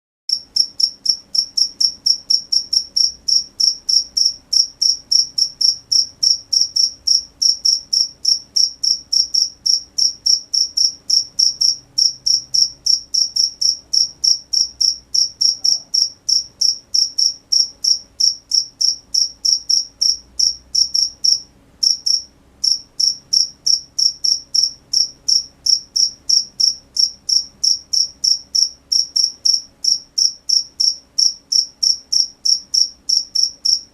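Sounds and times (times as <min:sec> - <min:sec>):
cricket chirping: 0:00.3 - 0:33.9.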